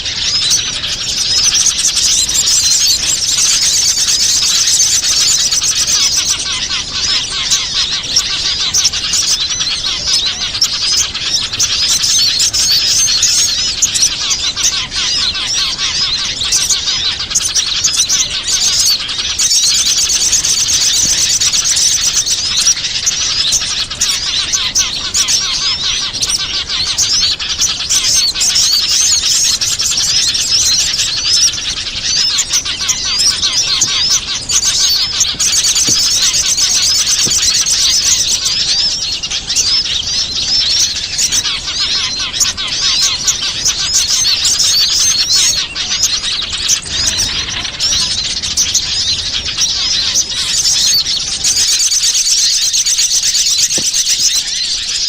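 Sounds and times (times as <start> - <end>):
small birds chirping and twittering: 0.0 - 55.0.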